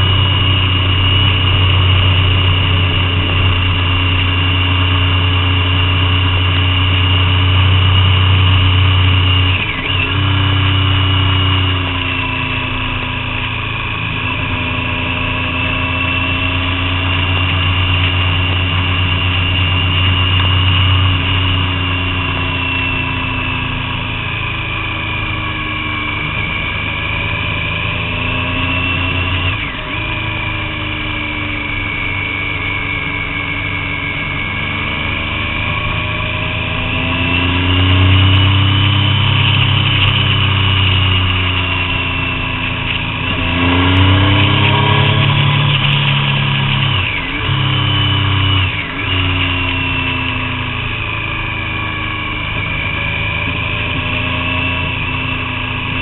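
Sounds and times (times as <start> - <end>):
motorcycle engine revving under load: 0.0 - 56.0.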